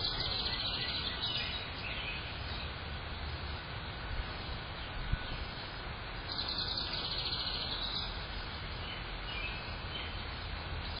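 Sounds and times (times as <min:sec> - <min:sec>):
birds calling: 0:00.0 - 0:11.0
outdoor background noise: 0:00.0 - 0:11.0.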